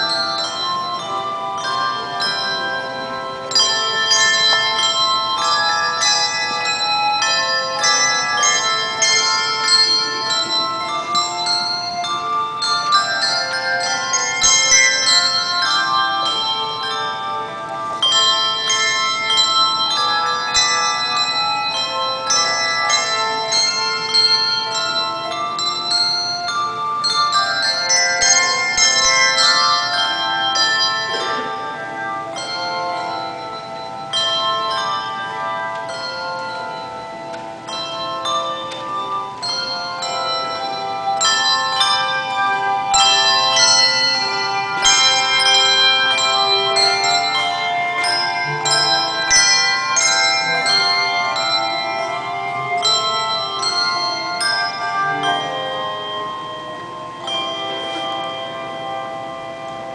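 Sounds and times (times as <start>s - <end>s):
handbell choir ringing: 0.0s - 59.9s.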